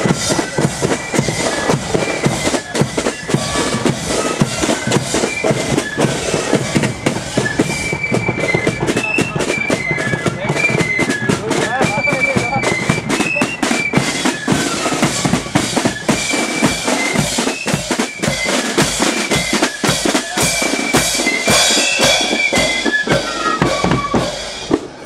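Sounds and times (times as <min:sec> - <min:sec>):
flutes playing high melody: 0:00.0 - 0:25.0
side drum rolls: 0:00.0 - 0:25.0.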